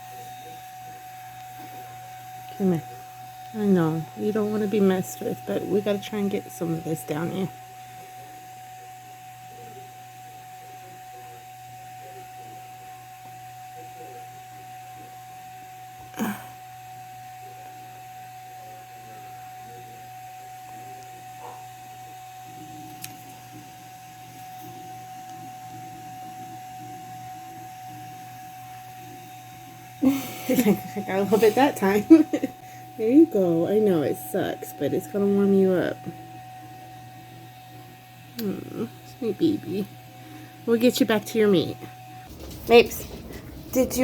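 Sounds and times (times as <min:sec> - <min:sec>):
appliance electrical hum: 0:00.0 - 0:44.0.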